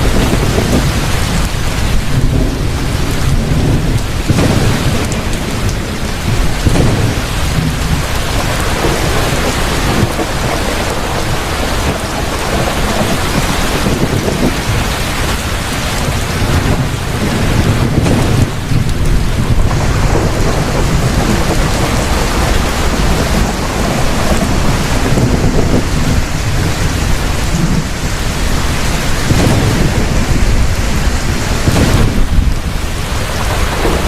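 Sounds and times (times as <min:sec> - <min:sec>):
heavy rain pouring: 0:00.0 - 0:34.0
low thunder rumbling: 0:00.0 - 0:34.0.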